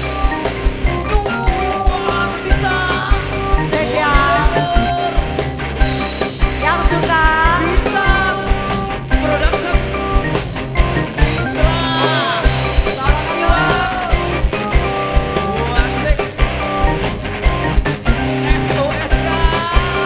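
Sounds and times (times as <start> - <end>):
live band playing: 0.0 - 20.0.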